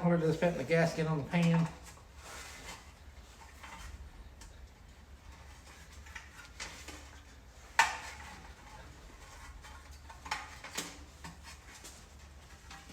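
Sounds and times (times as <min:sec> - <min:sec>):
gasket handling ticks and rustles: 0:00.1 - 0:12.9.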